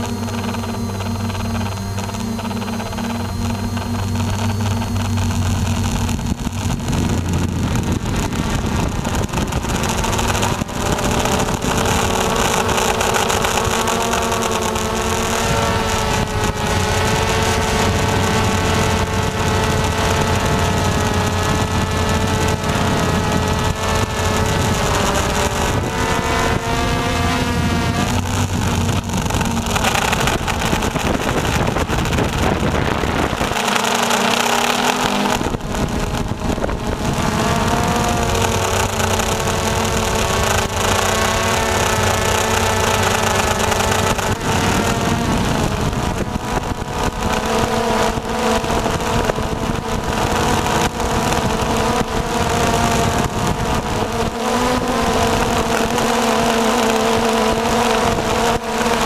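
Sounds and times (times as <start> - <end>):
quadcopter motors whirring: 0.0 - 59.0.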